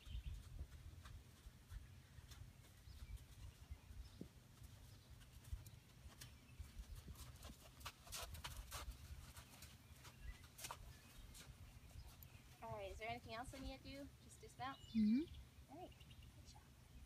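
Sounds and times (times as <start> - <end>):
horse hooves on sand: 0.0 - 14.3.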